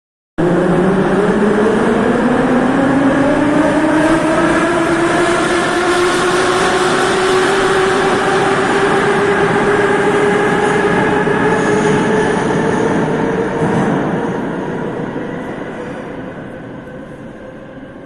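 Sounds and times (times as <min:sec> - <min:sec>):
wheels rumbling on rail: 0:00.4 - 0:18.0.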